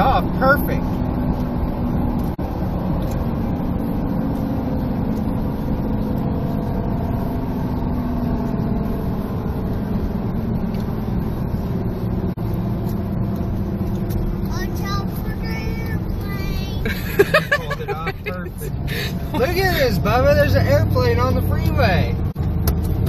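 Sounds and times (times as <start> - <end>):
faint engine hum: 0.0 - 23.0
freeway traffic noise: 0.0 - 23.0.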